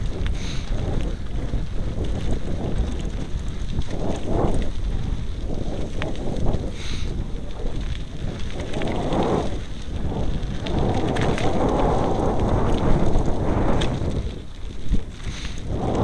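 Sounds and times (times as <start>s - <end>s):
bike knocking and rattling: 0.0s - 16.0s
tyres rumbling over dirt: 0.0s - 16.0s
wind buffeting microphone: 0.0s - 16.0s.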